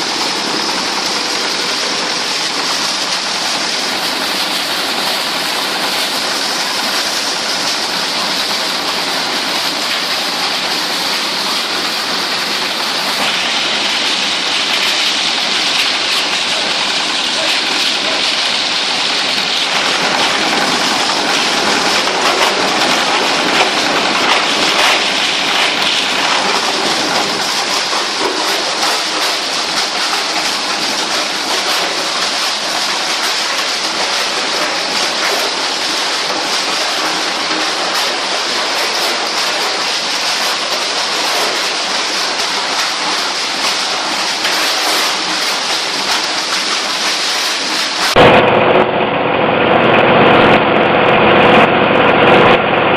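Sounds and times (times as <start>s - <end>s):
plastic shredder chopping plastic: 0.0s - 48.6s.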